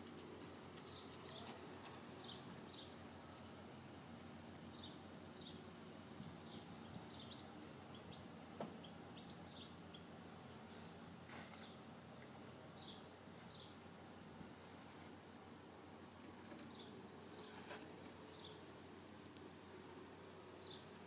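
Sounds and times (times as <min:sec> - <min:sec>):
outdoor background hum: 0:00.0 - 0:21.0.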